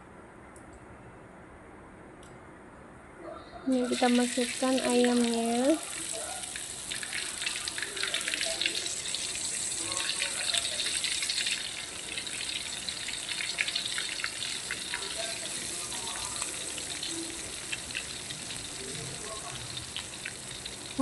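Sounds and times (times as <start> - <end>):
chicken deep-frying in hot oil: 3.7 - 21.0.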